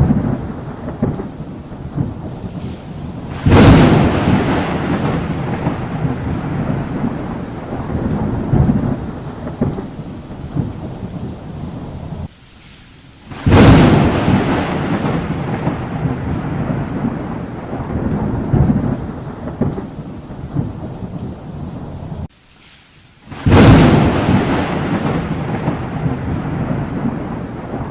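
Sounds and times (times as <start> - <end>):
loud thunderclap: 0.0 - 12.3, 13.3 - 22.3, 23.3 - 27.9
thunder rumbling: 0.0 - 12.3, 13.3 - 22.3, 23.3 - 27.9
steady rain: 0.0 - 27.9.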